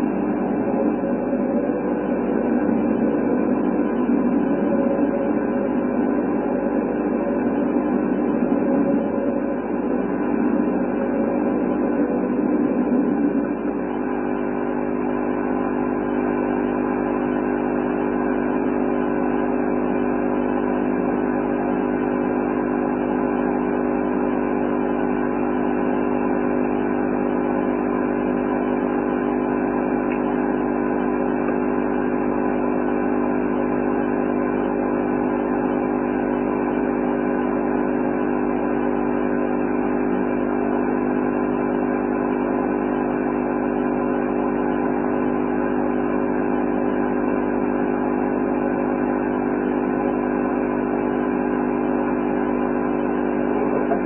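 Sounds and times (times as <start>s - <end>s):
steady drone of held pitches: 0.0s - 54.0s.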